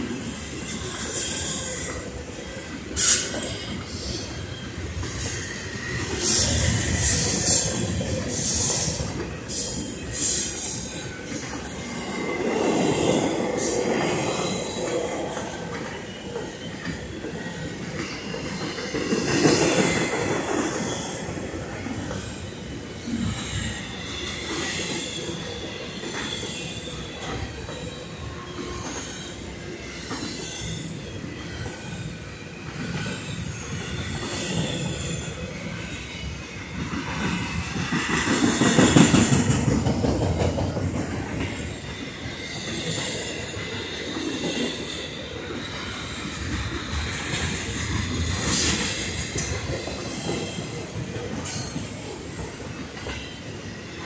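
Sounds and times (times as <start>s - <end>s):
freight train wheels rumbling: 0.0s - 54.0s
high squeal of wheels: 0.1s - 54.0s.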